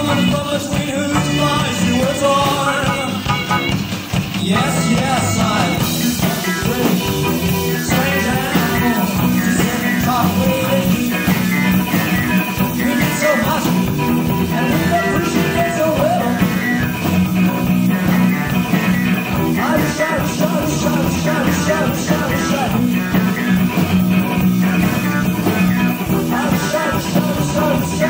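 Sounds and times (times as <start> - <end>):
rock band music: 0.0 - 28.0.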